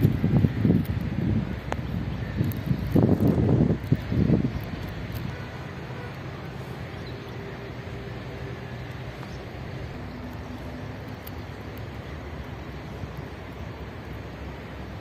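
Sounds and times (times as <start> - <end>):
distant city traffic hum: 0.0 - 15.0
faint engine tones: 0.0 - 15.0.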